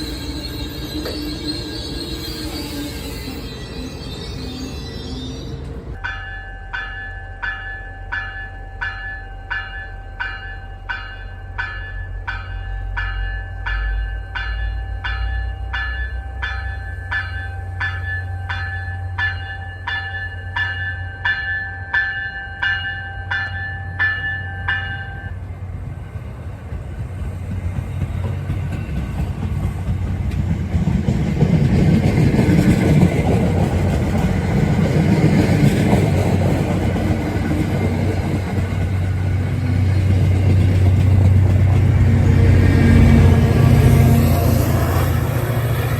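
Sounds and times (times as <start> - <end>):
railway warning bell ringing: 0.0 - 25.8, 31.3 - 45.9
train rumbling: 0.0 - 45.9.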